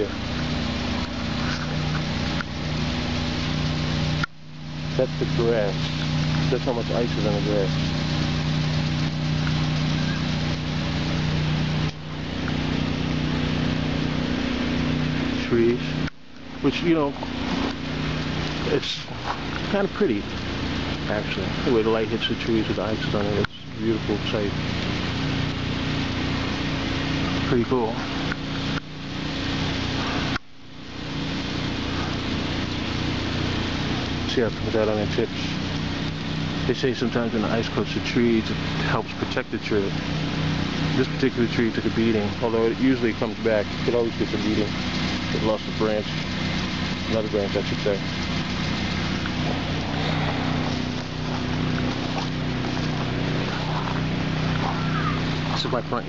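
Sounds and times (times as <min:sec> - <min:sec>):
constant hiss: 0:00.0 - 0:56.0
engine running: 0:00.0 - 0:56.0
mechanical hum: 0:00.0 - 0:56.0.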